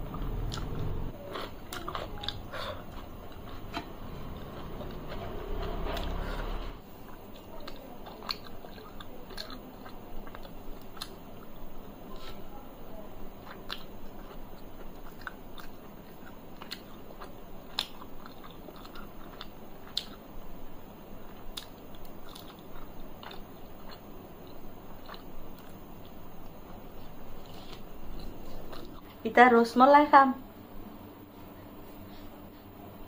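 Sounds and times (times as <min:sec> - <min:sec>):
chewing with wet mouth clicks: 0:00.0 - 0:06.2, 0:07.0 - 0:12.4, 0:13.2 - 0:29.1.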